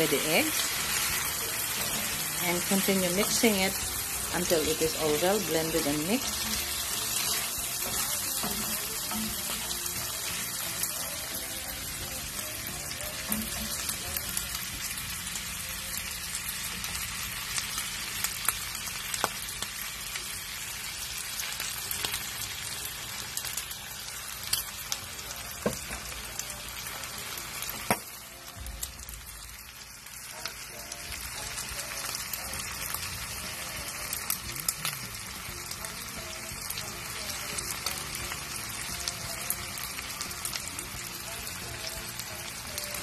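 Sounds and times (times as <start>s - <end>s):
meat sizzling in a pan: 0.0s - 43.0s.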